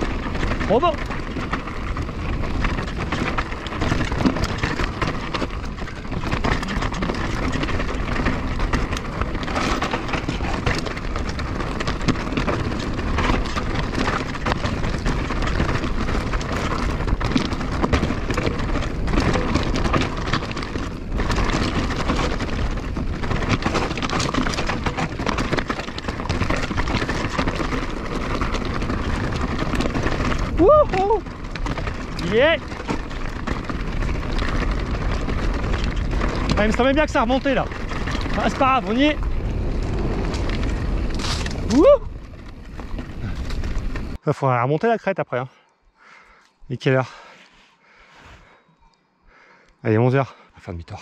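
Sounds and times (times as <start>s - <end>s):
bike knocking: 0.0s - 44.2s
bike tyres crunching over gravel: 0.0s - 48.6s.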